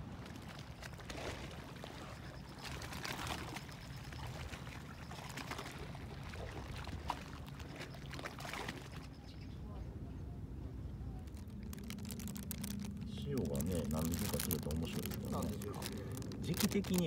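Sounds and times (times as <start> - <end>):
low steady rumble: 0.0 - 17.0
sea water lapping and splashing: 0.0 - 17.0.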